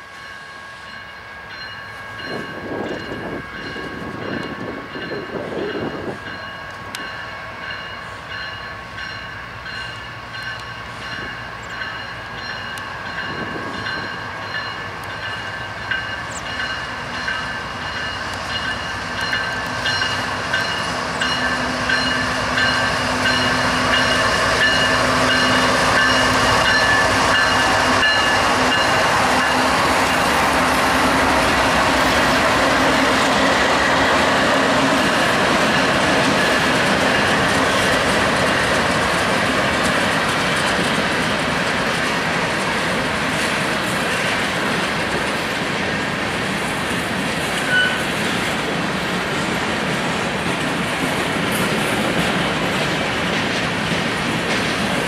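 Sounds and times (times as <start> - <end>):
diesel locomotive engines: 0.0 - 55.0
train wheels on rails: 0.0 - 55.0.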